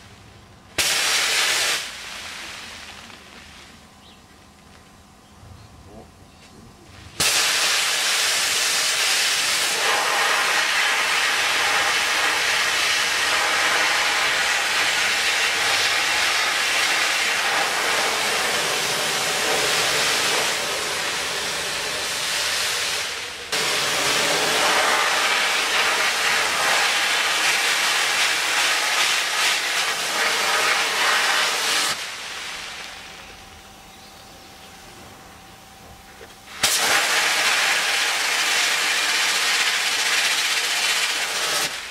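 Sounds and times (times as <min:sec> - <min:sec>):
sandblaster hissing: 0:00.8 - 0:03.8, 0:07.0 - 0:33.4, 0:36.4 - 0:41.9.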